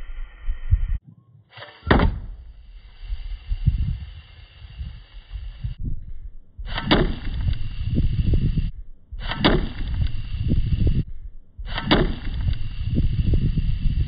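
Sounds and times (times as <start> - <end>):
low rumbling: 0.0 - 1.0, 1.9 - 14.0.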